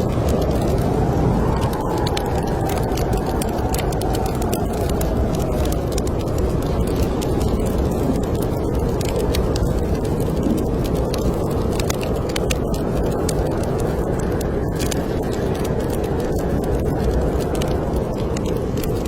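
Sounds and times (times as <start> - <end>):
snowstorm wind rushing: 0.0 - 19.0
wood fire crackling: 0.0 - 19.0.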